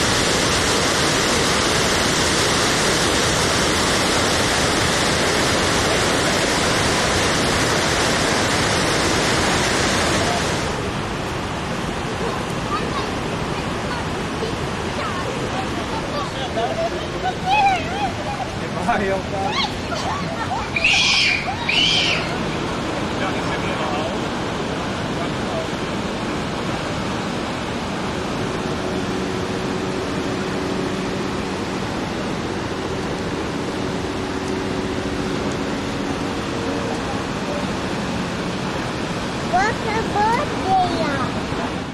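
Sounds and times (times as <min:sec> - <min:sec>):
rushing river rapids: 0:00.0 - 0:41.9
waterfall roaring: 0:00.0 - 0:41.9.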